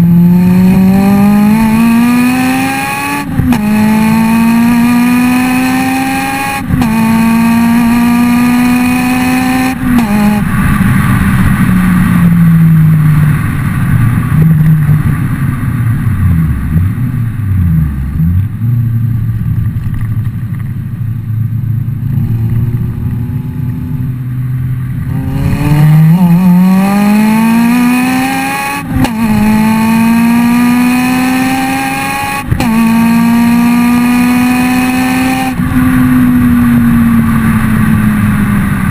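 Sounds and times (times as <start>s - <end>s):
car engine revving with upshifts: 0.0s - 20.7s, 21.4s - 38.9s.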